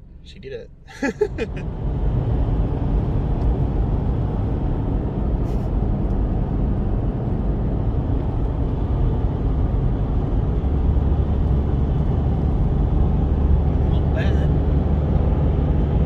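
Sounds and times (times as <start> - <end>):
road and engine rumble in car cabin: 0.0 - 16.0.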